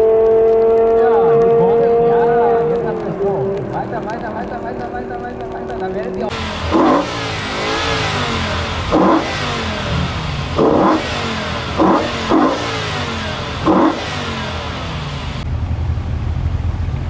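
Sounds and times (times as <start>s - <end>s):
car engine idling with throttle blips: 0.0s - 17.0s.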